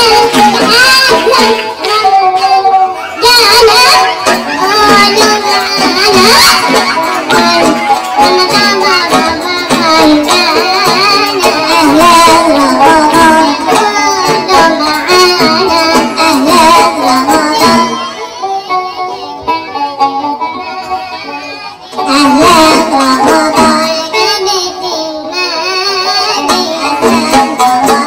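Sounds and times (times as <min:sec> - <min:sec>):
folk music with high singing: 0:00.0 - 0:28.0.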